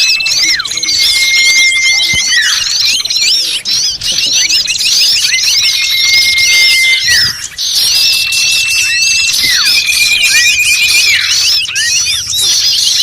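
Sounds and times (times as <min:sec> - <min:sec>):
high falling whistle: 0:00.0 - 0:13.0
small birds twittering: 0:00.0 - 0:13.0.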